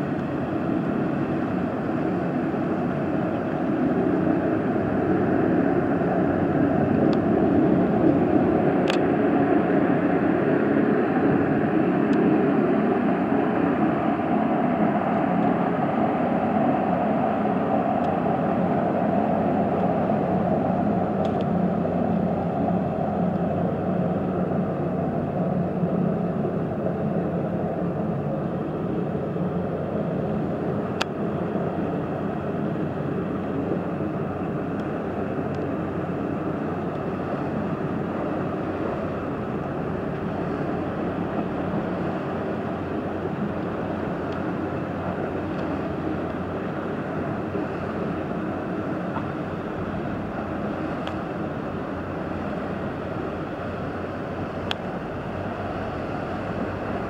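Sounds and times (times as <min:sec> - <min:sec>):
boat diesel engines droning: 0:00.0 - 0:57.0
water noise: 0:00.0 - 0:57.0
wind: 0:00.0 - 0:57.0.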